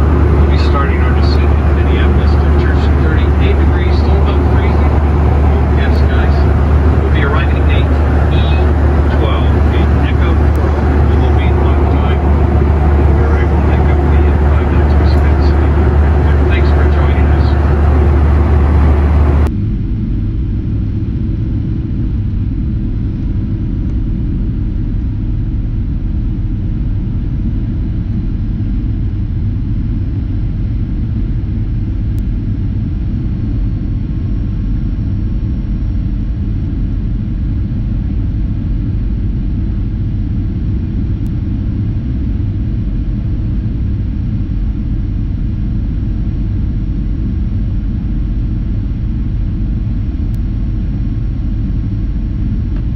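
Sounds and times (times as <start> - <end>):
jet engine cabin rumble: 0.0 - 52.9
louder hum: 0.0 - 52.9.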